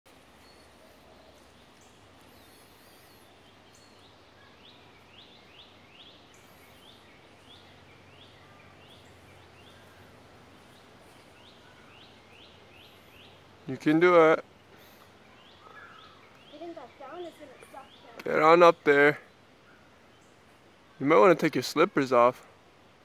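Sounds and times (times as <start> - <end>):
faint outdoor background noise: 0.0 - 23.0.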